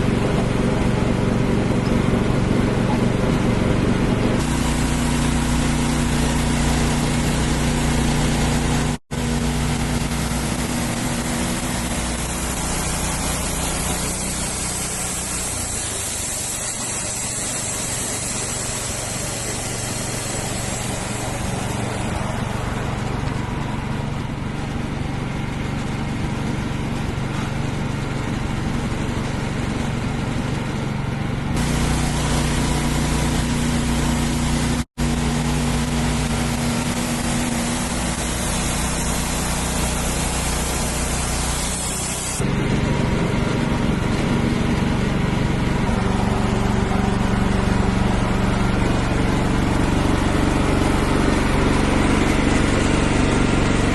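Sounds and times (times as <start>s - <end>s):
band sawmill sawing logs: 0.0s - 53.9s.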